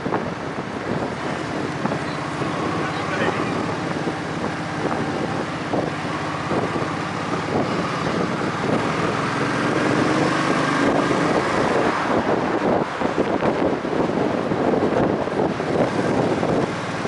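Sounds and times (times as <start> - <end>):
engine running steadily: 0.0 - 17.0
wind buffeting microphone: 0.0 - 17.0.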